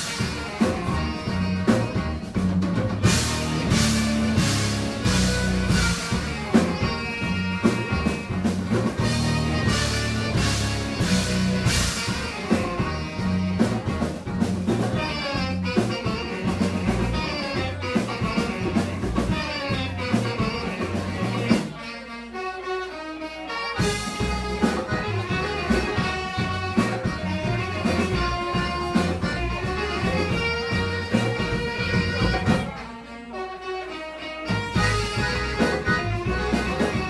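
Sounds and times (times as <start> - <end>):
drum kit beat: 0.0 - 21.9, 23.6 - 33.0, 34.2 - 37.0
live band music: 0.0 - 37.0.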